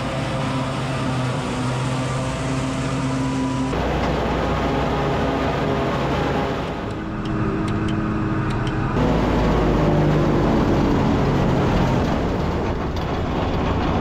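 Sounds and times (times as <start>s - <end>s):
farm machinery engine running: 0.0s - 14.0s.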